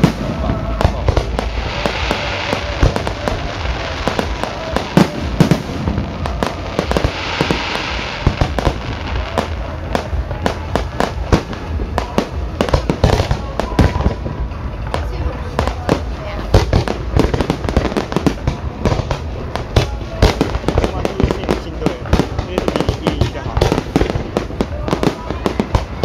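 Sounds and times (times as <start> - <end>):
fireworks bangs and pops: 0.0 - 26.0
fireworks hissing crackle: 0.0 - 26.0.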